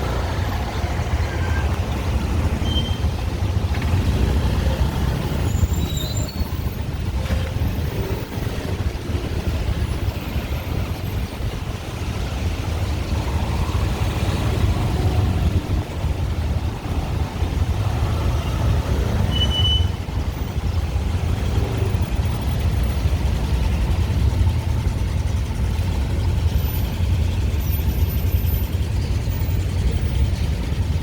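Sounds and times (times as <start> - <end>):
cars: 0.0 - 31.0
engine and road rumble: 0.0 - 31.0
motorbikes: 0.0 - 31.0.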